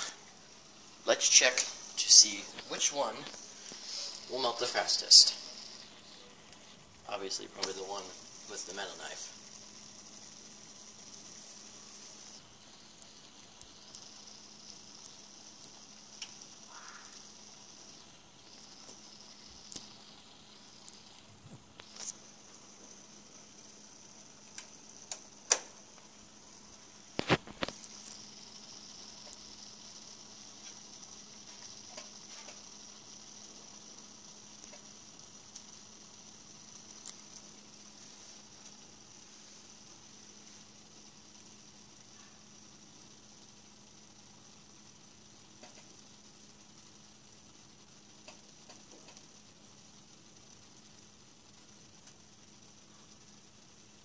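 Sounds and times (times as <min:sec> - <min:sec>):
faint high hiss: 0:00.0 - 0:54.0
small ticks: 0:00.0 - 0:54.0.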